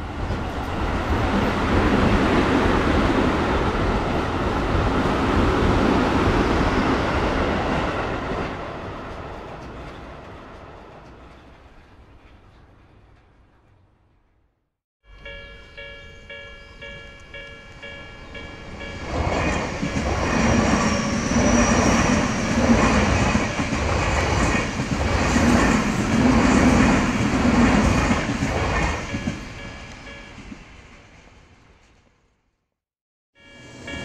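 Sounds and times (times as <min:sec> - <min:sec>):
train wheels rumbling on rails: 0:00.0 - 0:14.4, 0:17.4 - 0:30.7.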